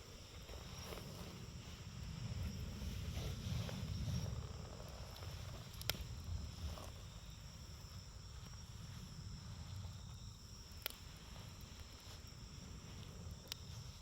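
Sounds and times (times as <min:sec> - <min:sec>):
campfire burning: 0:00.0 - 0:14.0
insects trilling: 0:00.0 - 0:14.0
fire crackling pops: 0:02.2 - 0:14.0.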